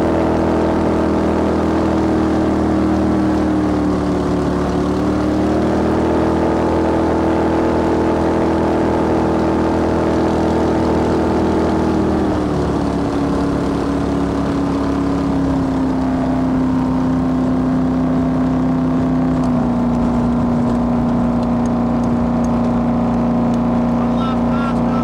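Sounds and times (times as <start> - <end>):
boat engine running loud: 0.0 - 25.0.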